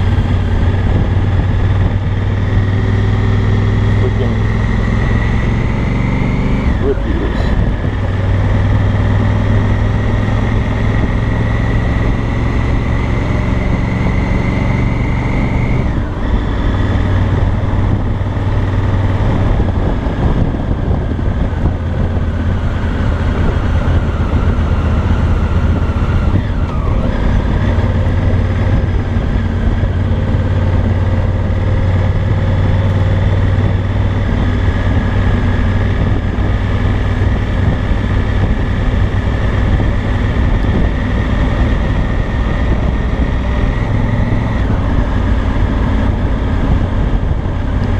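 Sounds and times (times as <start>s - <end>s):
motorcycle engine and exhaust: 0.0s - 47.9s.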